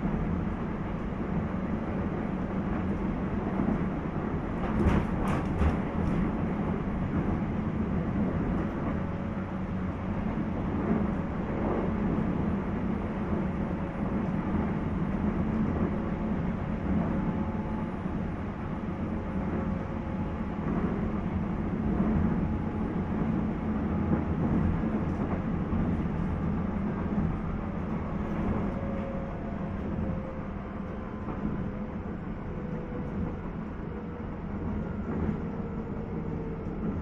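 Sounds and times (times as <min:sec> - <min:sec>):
train wheels and motors rumbling: 0:00.0 - 0:37.0.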